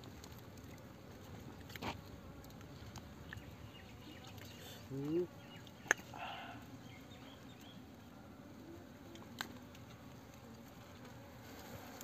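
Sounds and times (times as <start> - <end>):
honeycomb crackling and rustling: 0.0 - 12.0
bees buzzing: 0.9 - 12.0.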